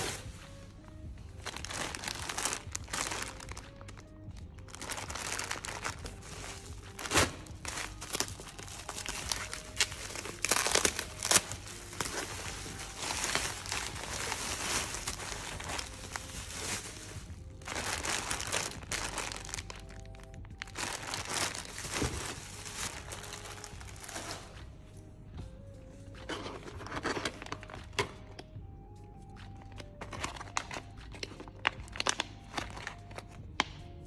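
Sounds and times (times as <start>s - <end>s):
bubble wrap crinkling: 0.0s - 0.8s, 1.4s - 24.7s, 29.8s - 33.8s.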